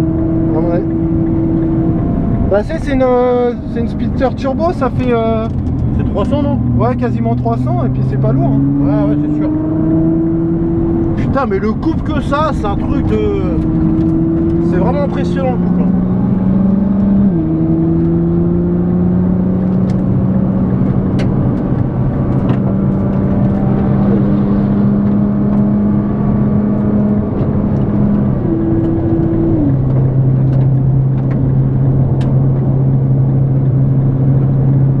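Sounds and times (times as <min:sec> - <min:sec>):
car engine running hard: 0:00.0 - 0:35.0.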